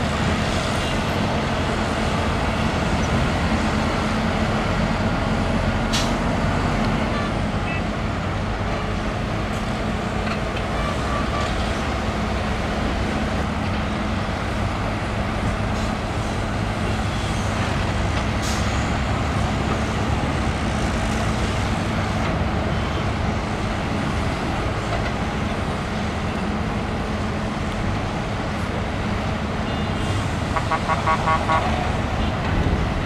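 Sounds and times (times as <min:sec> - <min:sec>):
diesel engines droning: 0:00.0 - 0:33.0.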